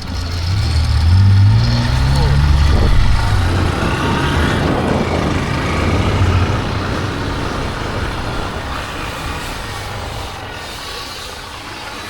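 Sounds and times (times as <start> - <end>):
street noise: 0.0 - 12.0
vehicle engine rumbling: 0.0 - 12.0.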